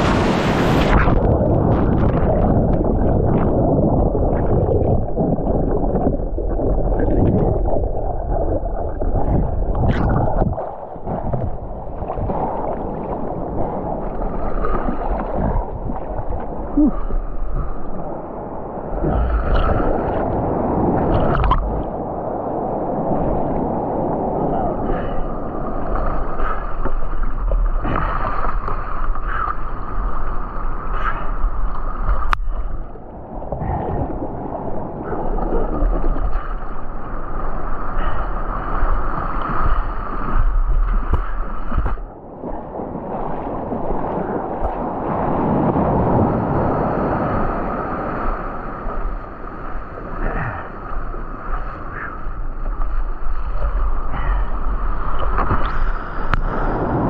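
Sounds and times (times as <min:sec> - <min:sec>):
surf sloshing in shallows: 0:00.0 - 0:57.0.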